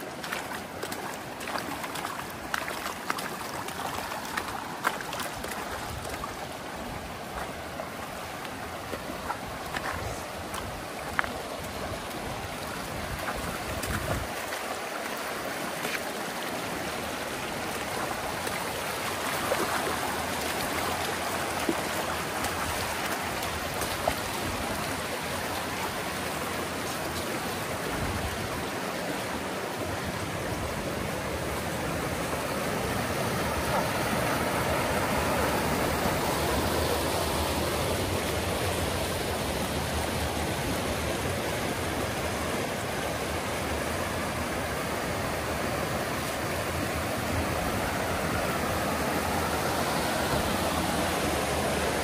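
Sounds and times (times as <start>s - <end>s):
river rushing over stones: 0.0s - 52.0s.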